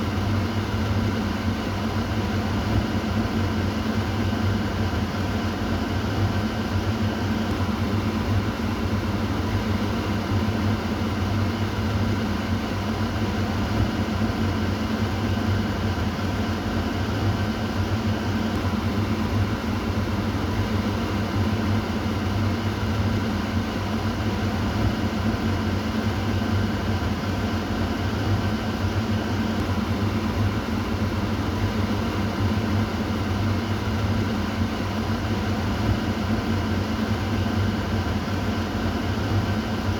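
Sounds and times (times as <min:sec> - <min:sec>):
exhaust fan running: 0:00.0 - 0:39.9.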